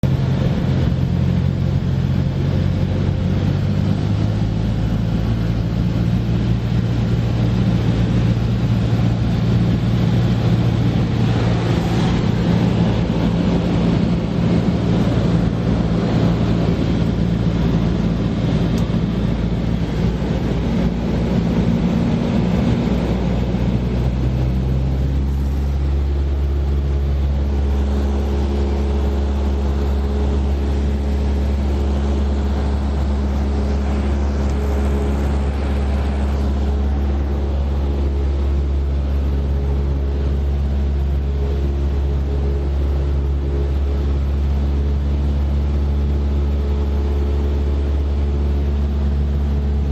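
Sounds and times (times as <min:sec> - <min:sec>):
airplane engine and propeller droning: 0:00.0 - 0:49.9.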